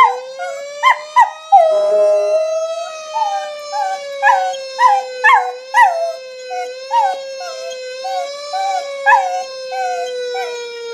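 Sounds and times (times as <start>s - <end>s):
dog howling and yelping: 0.0s - 10.6s
fire engine siren wailing: 0.0s - 10.9s.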